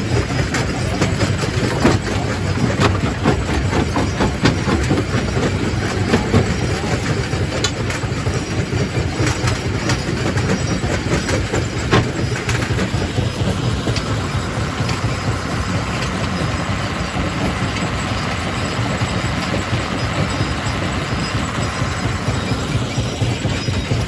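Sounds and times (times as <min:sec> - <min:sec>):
rock crusher rumbling: 0:00.0 - 0:24.0.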